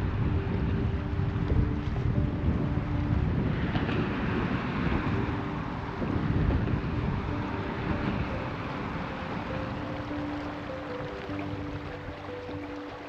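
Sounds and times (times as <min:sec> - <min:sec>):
river water flowing: 0:00.0 - 0:13.0
wind gusting across microphone: 0:00.0 - 0:13.0.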